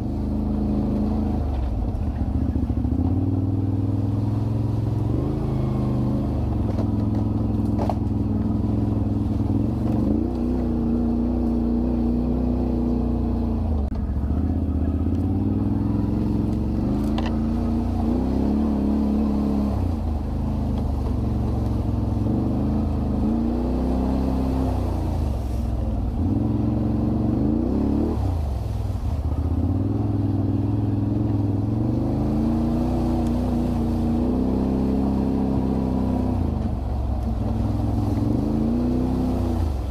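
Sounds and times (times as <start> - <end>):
quad bike engine revving: 0.0 - 28.6, 29.3 - 39.9.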